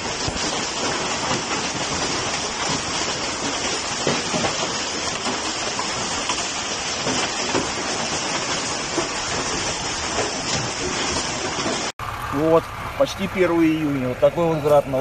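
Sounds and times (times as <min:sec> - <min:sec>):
hail and rain pattering: 0:00.0 - 0:15.0.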